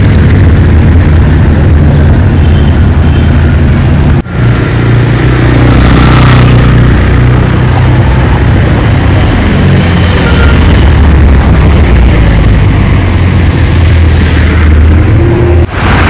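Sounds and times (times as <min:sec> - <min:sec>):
car engine running loud and low: 0:00.0 - 0:16.0
rushing noise: 0:00.0 - 0:16.0.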